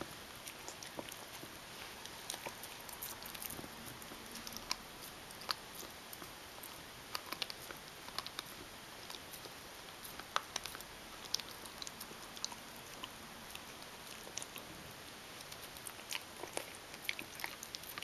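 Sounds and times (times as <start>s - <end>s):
dog gnawing chew bone: 0.3s - 18.0s.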